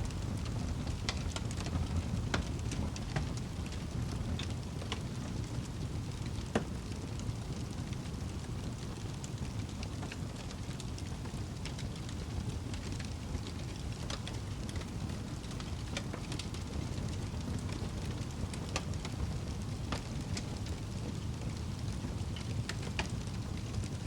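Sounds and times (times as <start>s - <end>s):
wood fire crackling in fireplace: 0.0s - 24.0s.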